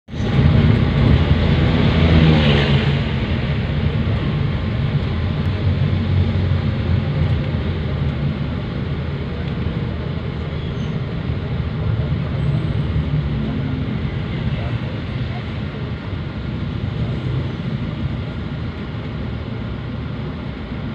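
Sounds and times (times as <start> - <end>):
vehicle engine and road drone: 0.0 - 20.9.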